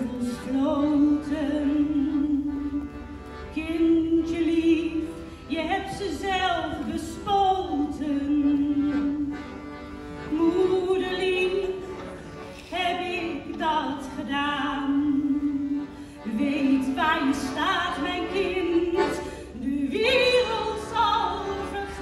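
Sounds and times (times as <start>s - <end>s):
woman singing with vibrato: 0.0s - 9.5s, 10.3s - 12.0s, 12.7s - 22.0s
piano accordion: 0.0s - 22.0s.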